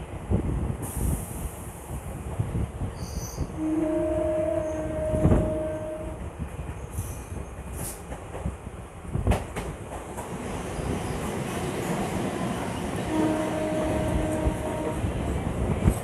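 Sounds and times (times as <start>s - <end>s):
train wheel and wind rush: 0.0s - 16.0s.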